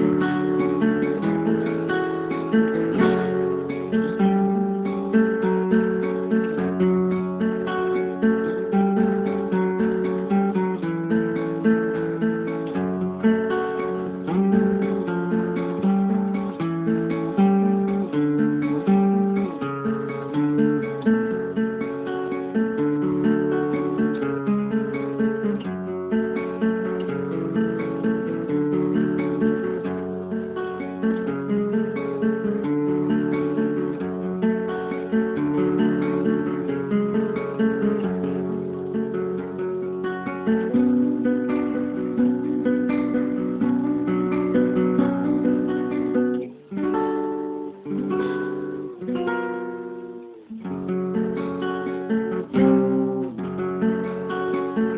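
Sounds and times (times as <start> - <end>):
acoustic guitar chords: 0.0 - 54.9.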